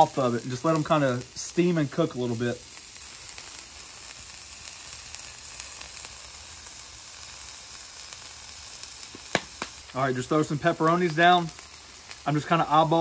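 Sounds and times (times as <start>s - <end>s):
vegetables sizzling on a griddle: 0.0s - 13.0s.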